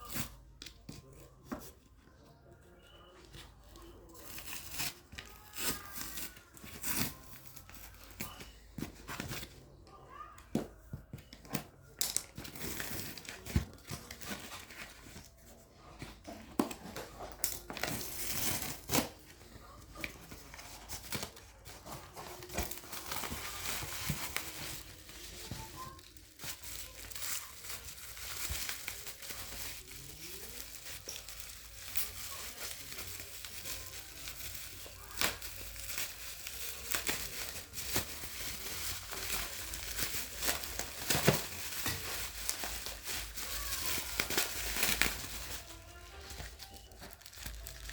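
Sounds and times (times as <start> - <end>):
packaging crinkling and tearing: 3.8 - 9.6, 11.5 - 15.6, 16.3 - 47.9.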